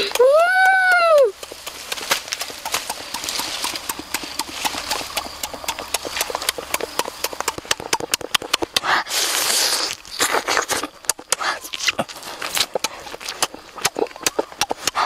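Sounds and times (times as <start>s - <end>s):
person chewing with lip-smacking: 0.0s - 15.0s.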